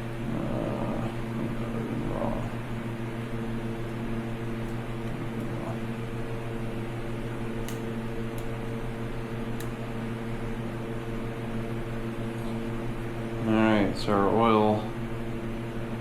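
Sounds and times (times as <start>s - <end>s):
motor electric hum: 0.0s - 16.0s.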